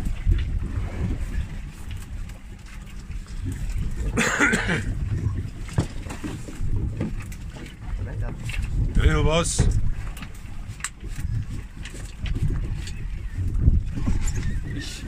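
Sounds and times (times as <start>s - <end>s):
boat engine rumble: 0.0s - 15.0s
wind buffeting microphone: 0.0s - 15.0s.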